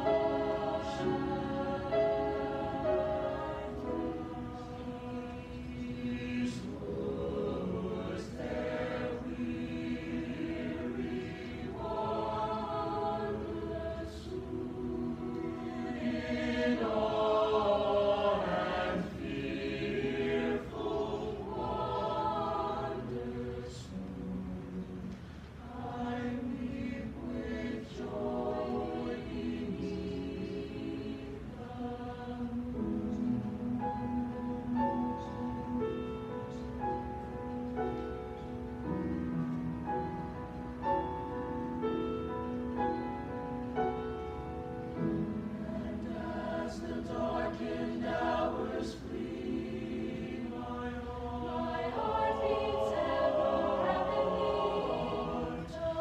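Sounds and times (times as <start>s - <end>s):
piano accompaniment: 0.0s - 25.1s, 32.4s - 56.0s
choir singing: 0.0s - 38.9s, 39.8s - 56.0s.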